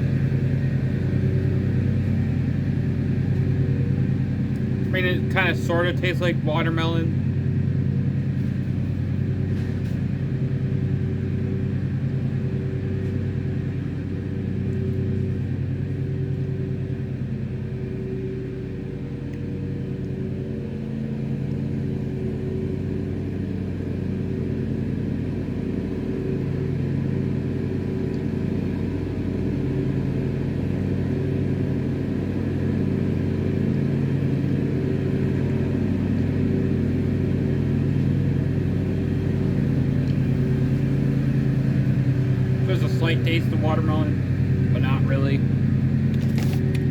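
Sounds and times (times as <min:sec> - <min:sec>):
lawnmower engine running: 0:00.0 - 0:46.9.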